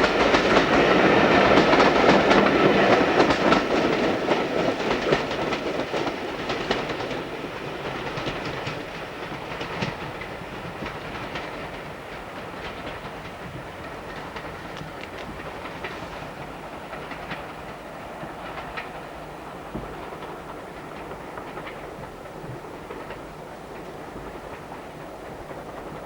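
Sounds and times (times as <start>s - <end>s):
train wheels clicking over rail joints: 0.0s - 26.0s.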